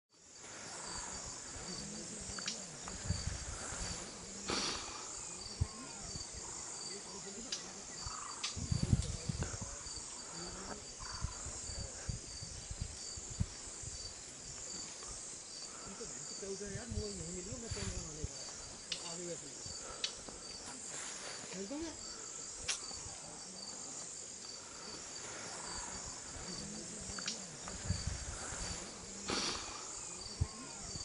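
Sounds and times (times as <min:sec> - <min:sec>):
insects chorus: 0:00.1 - 0:31.0.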